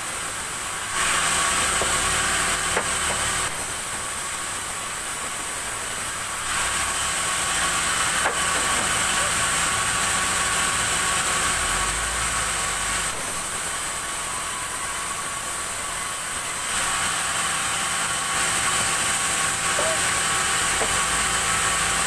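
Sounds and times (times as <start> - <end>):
band saw cutting wood: 0.3 - 22.0.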